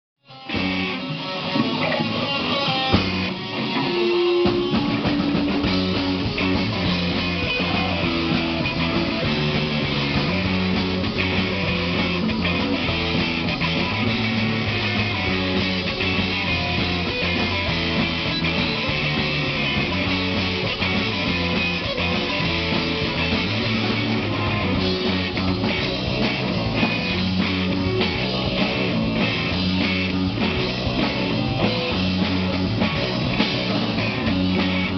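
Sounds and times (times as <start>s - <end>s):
drum kit: 0.2s - 34.9s
electric guitar: 0.2s - 34.9s
rock band playing live: 0.2s - 34.9s.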